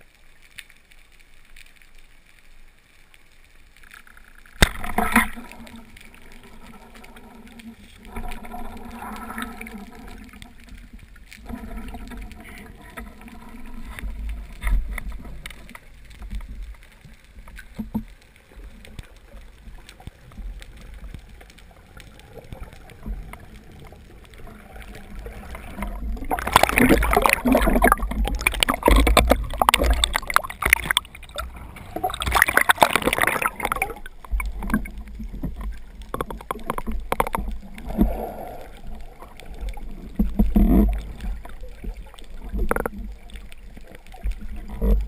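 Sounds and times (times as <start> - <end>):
faint clicks: 0.0 - 45.0
water splashing: 3.8 - 45.0
water gurgling underwater: 4.6 - 45.0.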